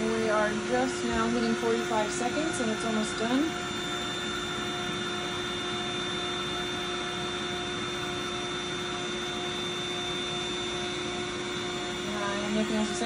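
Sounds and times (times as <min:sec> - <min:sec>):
electric air pump whining: 0:00.0 - 0:13.0.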